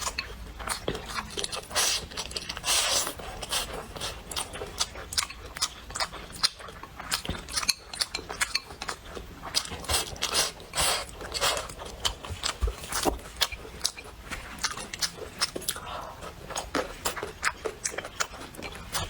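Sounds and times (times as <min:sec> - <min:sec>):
wet chewing and lip-smacking: 0:00.0 - 0:19.0.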